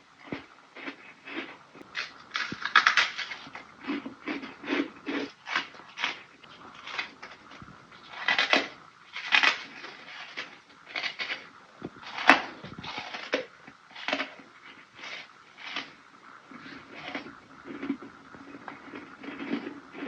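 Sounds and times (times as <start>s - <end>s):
person chewing crunchy ice: 0.2s - 20.0s.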